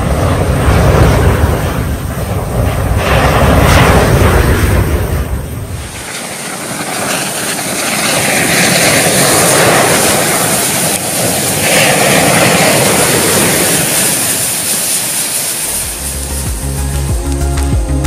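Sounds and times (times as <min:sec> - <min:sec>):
matches flaring roar of flame: 0:00.0 - 0:18.0.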